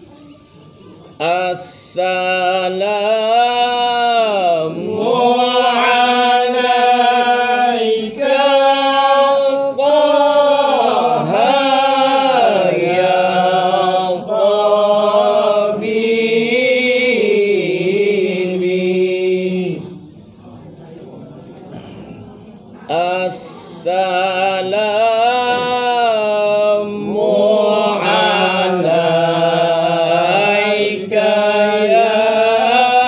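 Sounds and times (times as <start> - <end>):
men chanting held notes: 1.2 - 20.1, 22.9 - 33.0.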